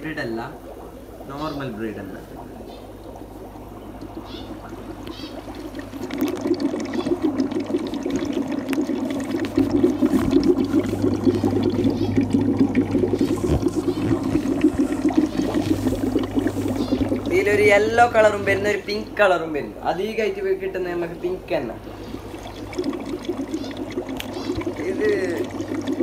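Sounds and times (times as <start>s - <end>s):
air bubbles gurgling: 0.0s - 26.0s
low steady hum: 0.0s - 26.0s.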